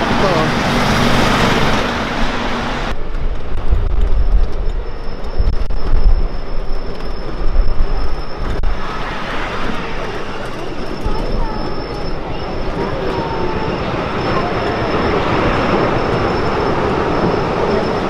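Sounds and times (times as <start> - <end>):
miniature train rumbling: 0.0 - 18.0.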